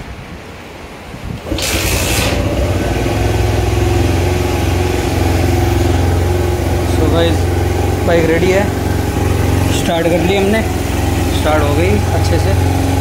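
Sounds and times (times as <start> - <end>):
engine idling fast: 1.4 - 13.0
motorcycle engine starting: 1.4 - 13.0.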